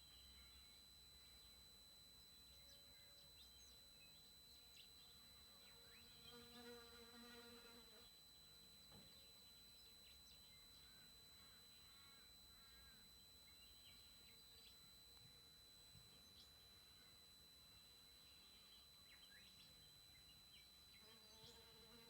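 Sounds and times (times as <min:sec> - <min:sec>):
bird chirps: 0:00.0 - 0:22.0.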